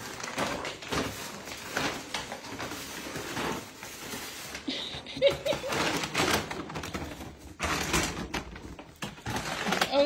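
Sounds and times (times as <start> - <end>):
bag scraping on tile floor: 0.0 - 10.0
plastic bag rustling and crinkling: 0.0 - 10.0.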